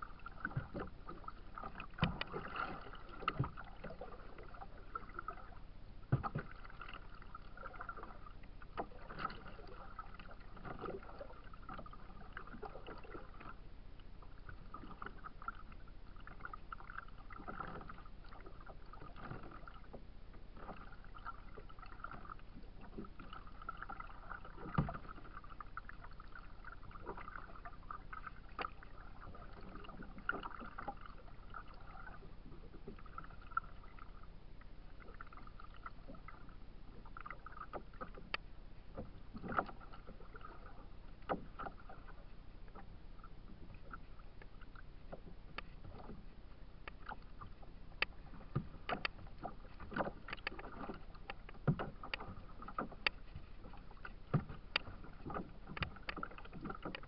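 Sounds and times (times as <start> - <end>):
water lapping against kayak hull: 0.0 - 57.0.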